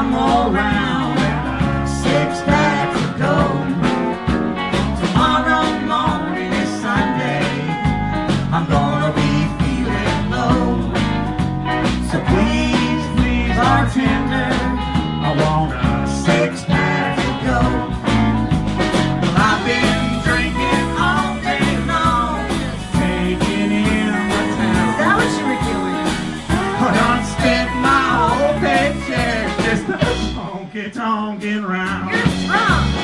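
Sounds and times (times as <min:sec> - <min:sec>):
drum kit steady beat: 0:00.0 - 0:30.6, 0:31.8 - 0:33.0
electric bass: 0:00.0 - 0:30.9, 0:31.5 - 0:33.0
electric guitars with bending leads: 0:00.0 - 0:33.0.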